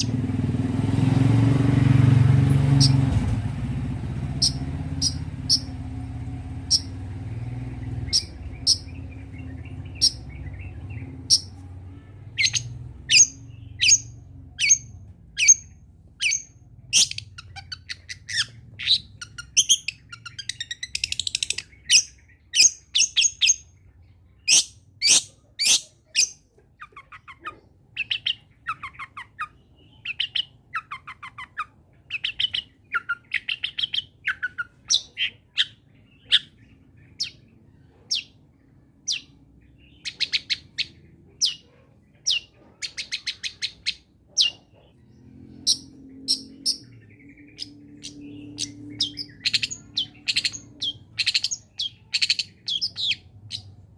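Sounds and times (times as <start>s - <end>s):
bird singing chirps and rattles: 0.0s - 53.9s.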